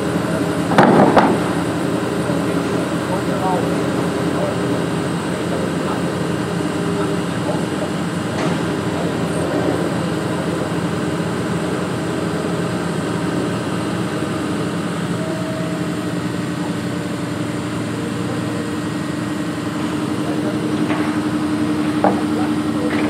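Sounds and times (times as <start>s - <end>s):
heavy machine engine humming: 0.0s - 23.0s.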